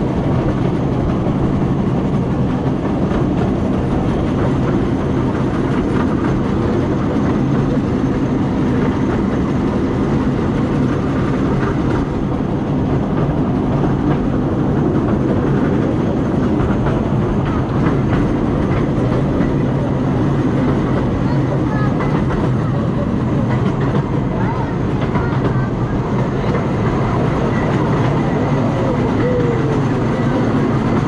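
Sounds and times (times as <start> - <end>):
train rumbling on rails: 0.0 - 31.0.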